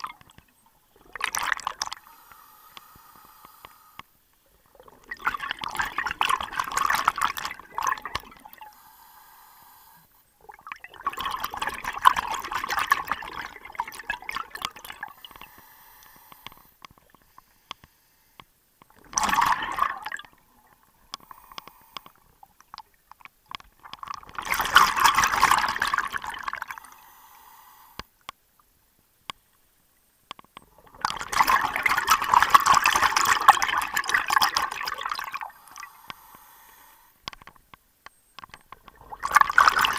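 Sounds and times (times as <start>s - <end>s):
underwater breath bubbling: 0.9s - 22.9s, 23.9s - 28.1s, 30.7s - 37.2s, 38.8s - 39.9s.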